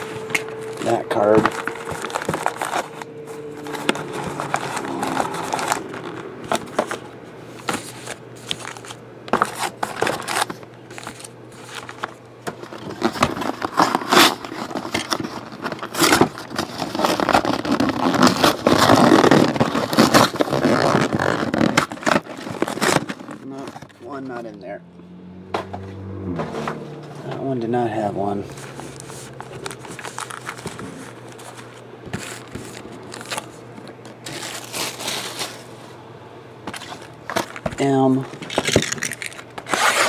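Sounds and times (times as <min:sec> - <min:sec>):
card packs rustling and crinkling: 0:00.0 - 0:24.8, 0:26.5 - 0:36.0, 0:36.6 - 0:40.0.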